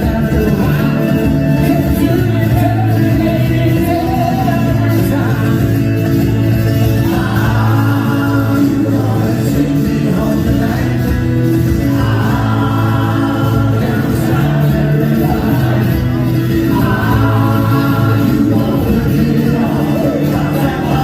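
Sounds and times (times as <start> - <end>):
live band music: 0.0 - 21.0
voices singing together: 0.0 - 21.0.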